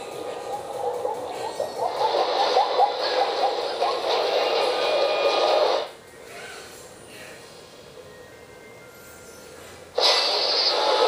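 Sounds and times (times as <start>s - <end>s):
movie trailer soundtrack on small speaker: 0.0s - 11.0s.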